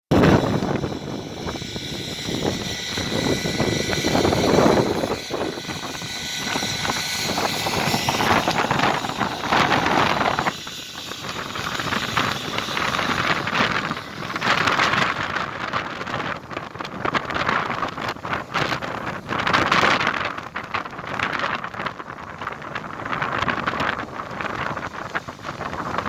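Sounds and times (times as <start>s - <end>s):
wind buffeting microphone: 0.1s - 26.0s.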